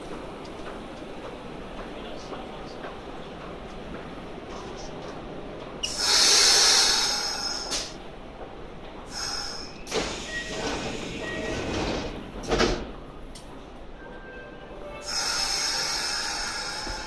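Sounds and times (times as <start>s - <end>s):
electric train rolling in: 0.0s - 17.0s.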